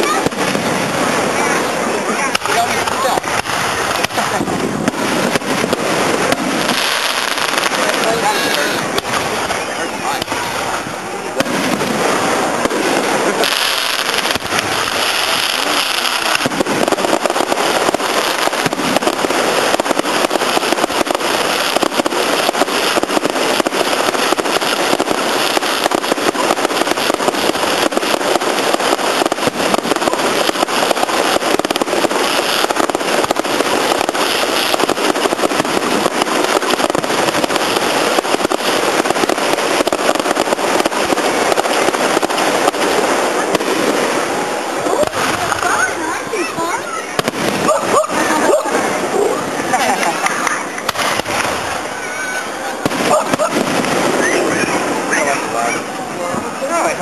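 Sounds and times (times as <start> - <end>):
fireworks hissing: 0.0 - 57.0
fireworks popping and crackling: 0.0 - 57.0.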